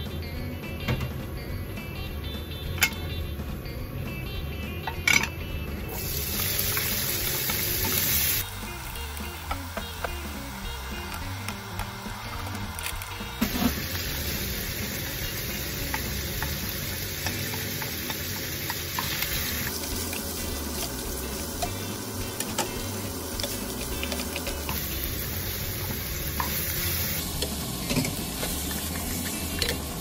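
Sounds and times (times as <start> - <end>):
meat and vegetables sizzling: 5.1 - 30.0.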